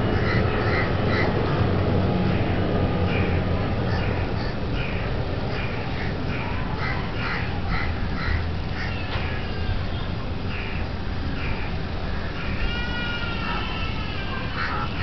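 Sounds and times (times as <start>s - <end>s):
crows cawing: 0.0s - 1.4s, 2.3s - 9.8s, 10.5s - 15.0s
steady low rumble: 0.0s - 12.6s.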